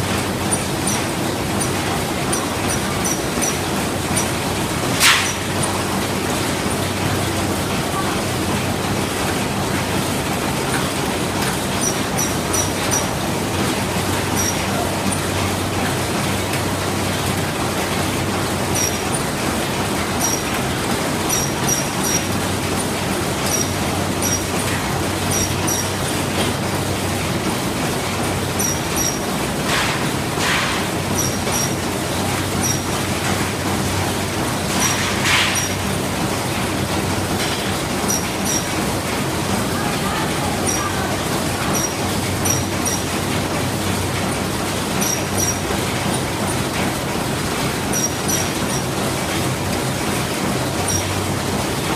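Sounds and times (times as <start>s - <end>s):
sausage machine running: 0.0s - 51.9s.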